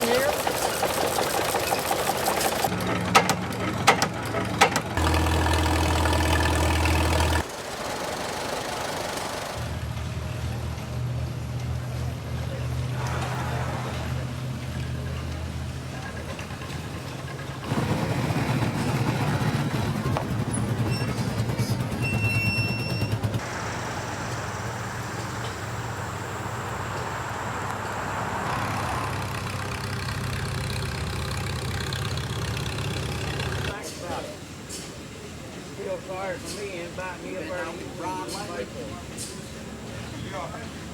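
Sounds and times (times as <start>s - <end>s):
engine hum: 0.0s - 33.8s.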